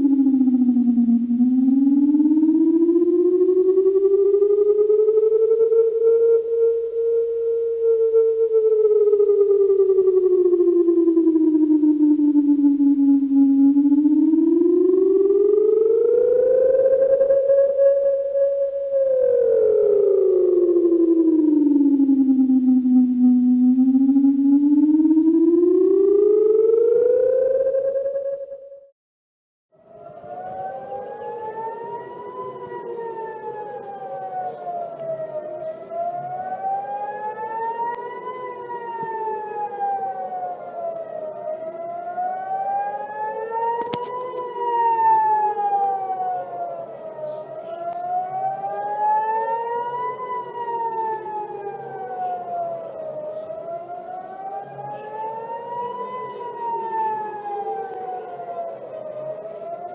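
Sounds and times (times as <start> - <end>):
second siren tone sweeping: 0.0 - 28.9, 29.8 - 59.9
warning siren wailing: 0.0 - 28.9, 29.7 - 59.9.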